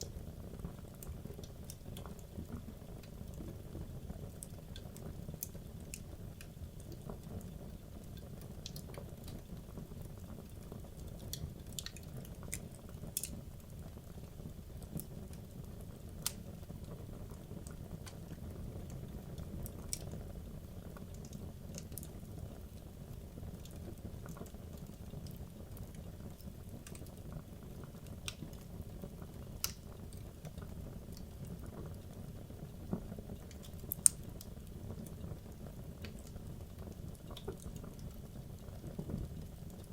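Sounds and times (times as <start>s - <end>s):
fire burning with low rush: 0.0s - 39.9s
wood crackles and pops: 0.0s - 39.9s.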